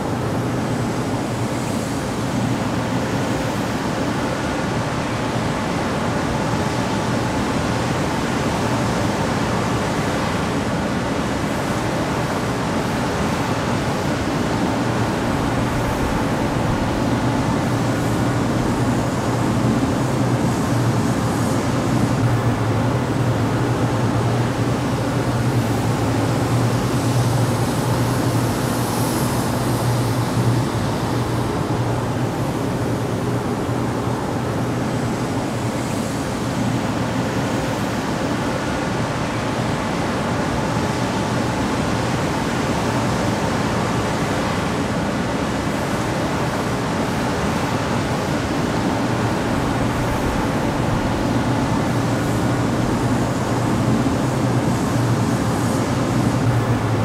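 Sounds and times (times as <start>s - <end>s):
exhaust fan air rush: 0.0s - 57.0s.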